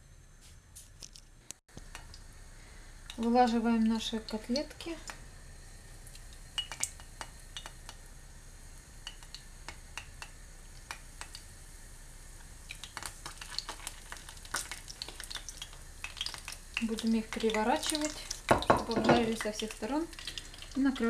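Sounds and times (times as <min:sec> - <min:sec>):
oil crackling and popping: 0:01.0 - 0:21.0.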